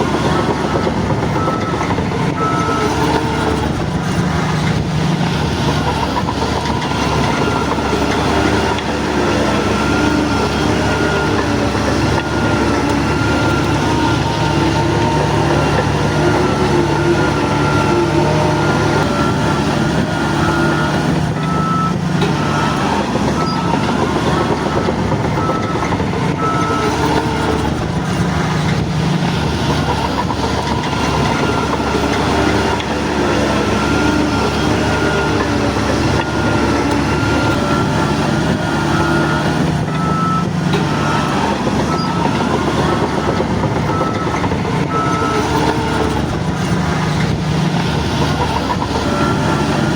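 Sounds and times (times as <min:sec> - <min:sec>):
heavy diesel engine running: 0:00.0 - 0:49.9
reversing alarm beeping: 0:00.0 - 0:49.9.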